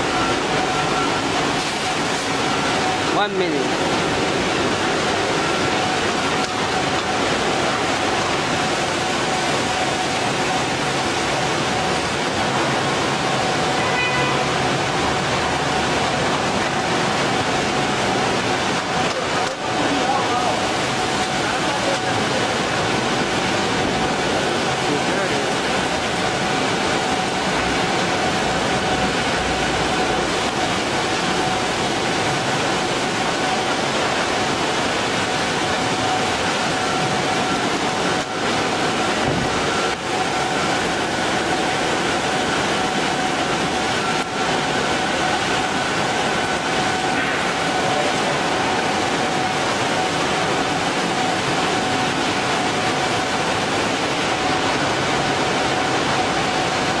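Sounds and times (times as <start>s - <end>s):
faint machine whine: 0.0s - 57.0s.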